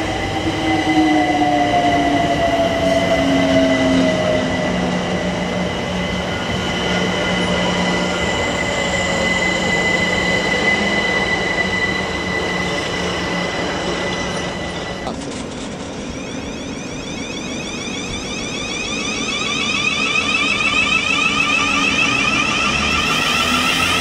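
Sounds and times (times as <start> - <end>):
electric train running past: 0.0 - 24.0
train wheels squealing: 0.0 - 24.0.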